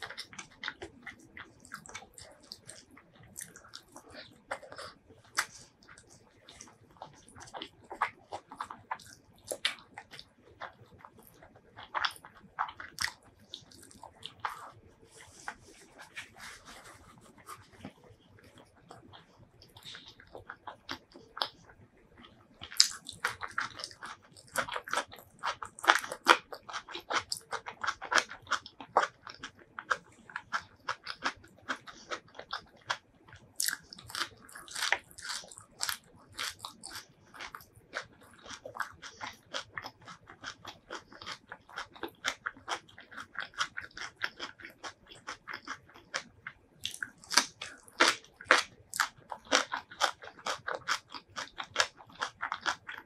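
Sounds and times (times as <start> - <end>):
wet chewing: 0.0 - 53.0.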